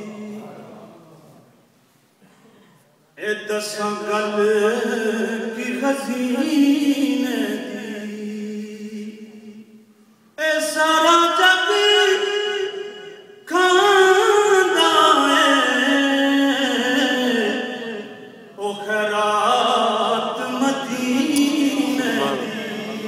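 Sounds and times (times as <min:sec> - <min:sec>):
man singing unaccompanied: 0:00.0 - 0:00.8, 0:03.2 - 0:09.6, 0:10.4 - 0:23.0.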